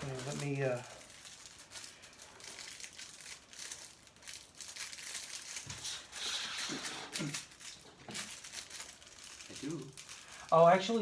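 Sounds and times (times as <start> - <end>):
rustling and crinkling: 0.0 - 11.0.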